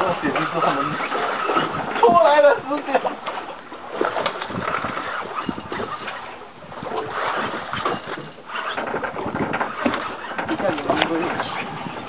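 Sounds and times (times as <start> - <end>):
water slapping against hull: 0.0 - 12.0.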